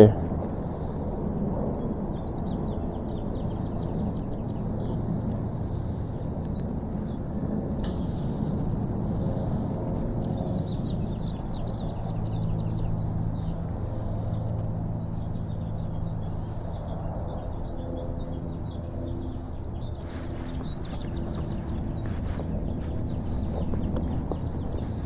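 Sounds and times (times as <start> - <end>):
low outdoor rumble: 0.0 - 25.0
small birds chirping: 0.0 - 25.0.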